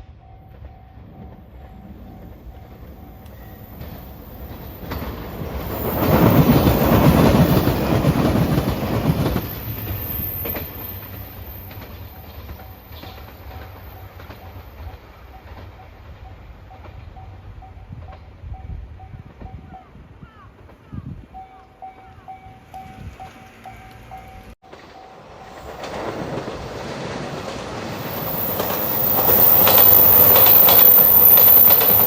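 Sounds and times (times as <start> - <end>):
crossing warning bell ringing: 0.0 - 19.7, 21.3 - 26.3, 28.0 - 32.0
train wheels clattering on rails: 0.3 - 19.9, 20.6 - 32.0.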